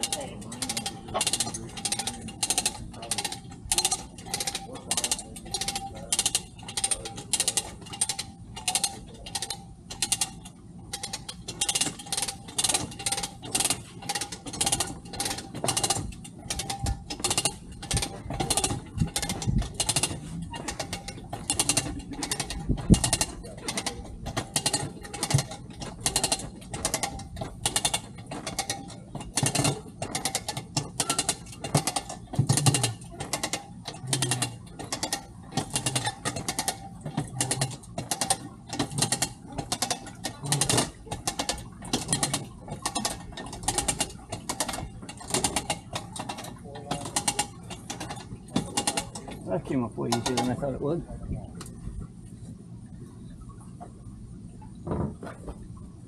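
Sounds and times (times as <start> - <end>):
hand ratchet clicking: 0.0 - 49.3.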